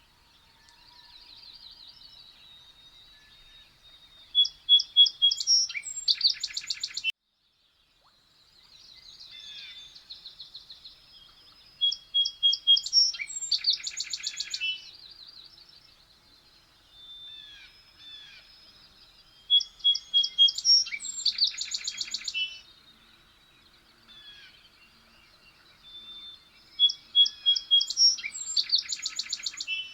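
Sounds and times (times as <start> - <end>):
songbird singing buzzy trill: 0.0 - 7.1, 7.9 - 29.9.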